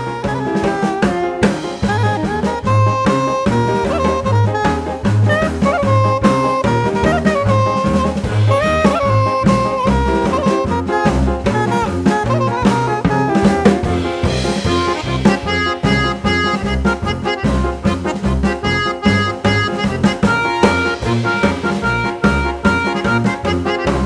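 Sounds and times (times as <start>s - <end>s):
drum kit beat: 0.0s - 24.0s
upbeat jazz with saxophone lead: 0.0s - 24.0s.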